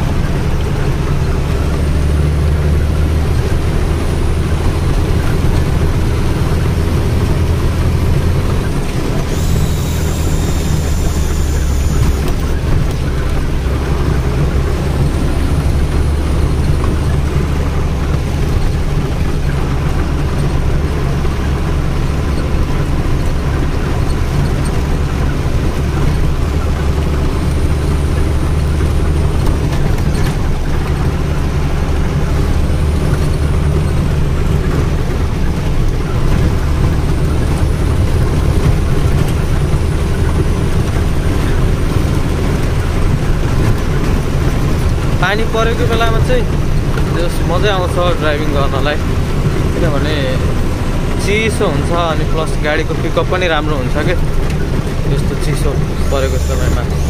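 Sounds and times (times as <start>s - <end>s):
heavy rain on cab: 0.0s - 57.0s
truck diesel engine running: 0.0s - 57.0s.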